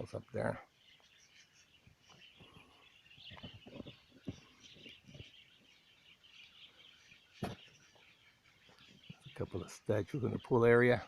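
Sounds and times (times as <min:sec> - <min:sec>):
small birds chirping and twittering: 0:00.0 - 0:11.0.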